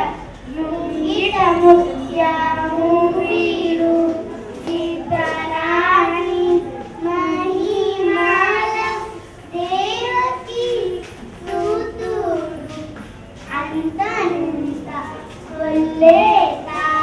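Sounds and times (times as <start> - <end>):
children singing into microphones: 0.0 - 17.0.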